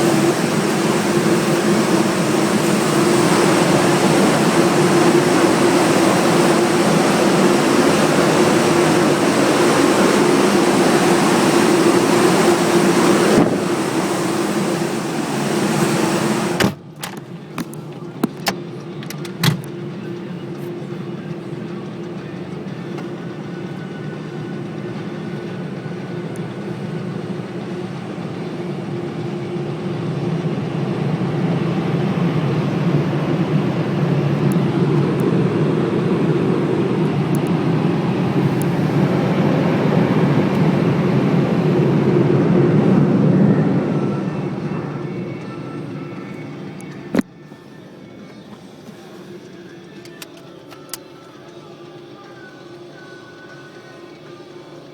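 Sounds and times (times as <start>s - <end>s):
car wash machinery rushing: 0.0s - 54.9s.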